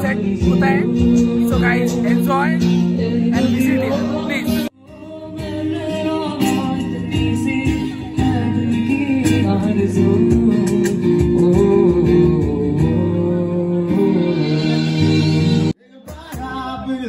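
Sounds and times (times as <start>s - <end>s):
person singing with guitar: 0.0s - 17.0s.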